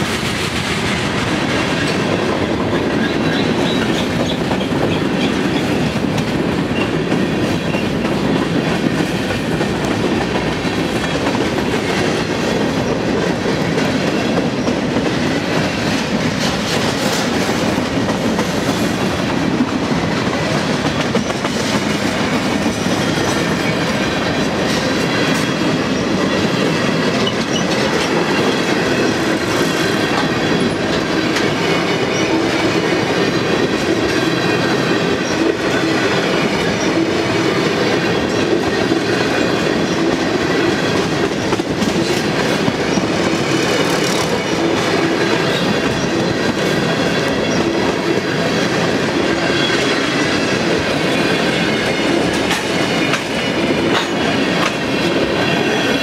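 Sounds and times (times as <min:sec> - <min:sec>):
freight train wheels rolling on rails: 0:00.0 - 0:56.0.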